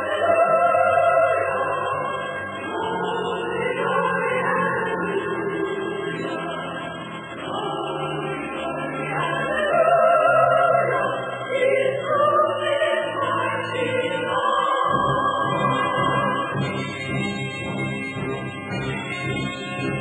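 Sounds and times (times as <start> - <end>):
choir singing held notes: 0.0 - 20.0.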